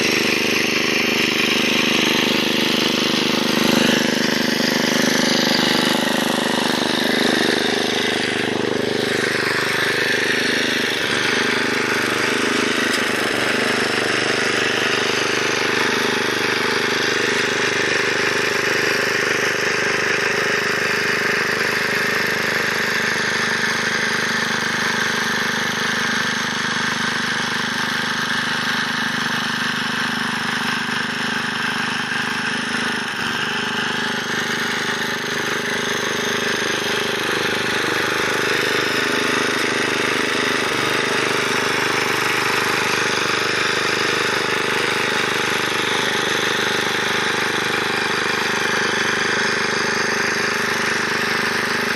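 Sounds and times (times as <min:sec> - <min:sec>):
rotary tines tilling soil: 0:00.0 - 0:51.9
walk-behind tractor engine running: 0:00.0 - 0:51.9.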